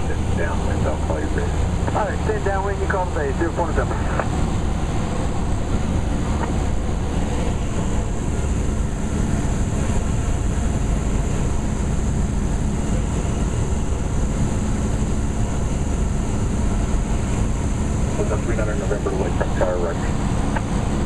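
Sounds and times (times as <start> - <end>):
propeller plane engine drone: 0.0 - 21.0.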